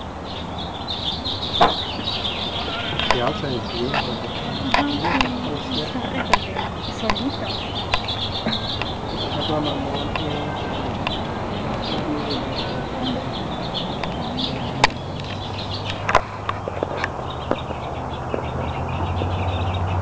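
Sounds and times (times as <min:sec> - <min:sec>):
birds chirping: 0:00.0 - 0:20.0
low steady hum: 0:00.0 - 0:20.0
murmur of voices: 0:01.4 - 0:18.4.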